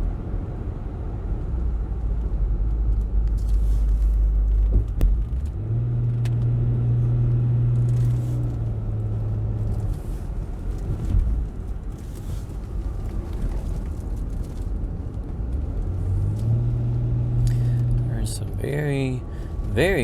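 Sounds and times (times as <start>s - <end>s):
car engine drone: 0.0s - 20.0s
road noise inside car: 0.0s - 20.0s.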